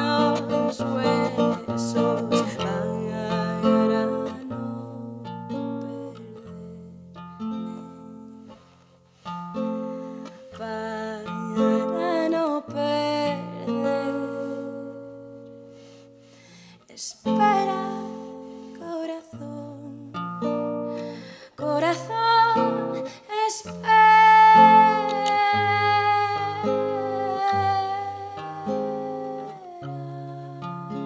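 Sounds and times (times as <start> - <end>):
classical guitar playing: 0.0 - 31.0.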